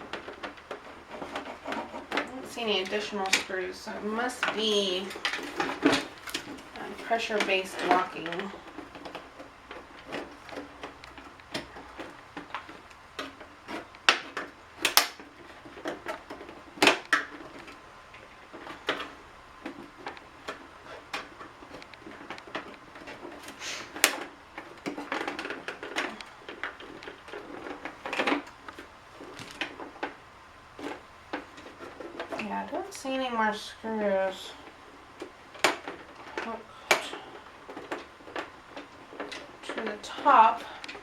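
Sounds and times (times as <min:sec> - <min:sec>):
sharp plastic clacks: 0:00.0 - 0:33.3, 0:34.3 - 0:41.0.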